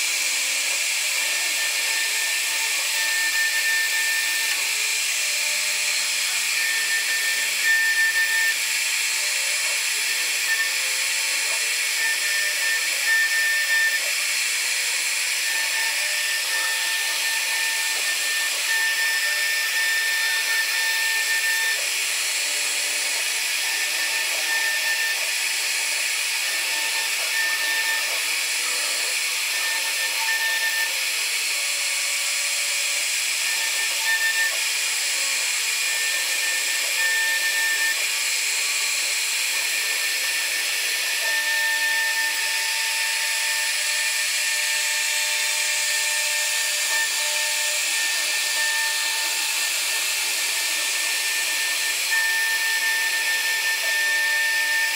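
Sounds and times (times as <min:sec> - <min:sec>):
router spindle cutting wood: 0:00.0 - 0:54.9.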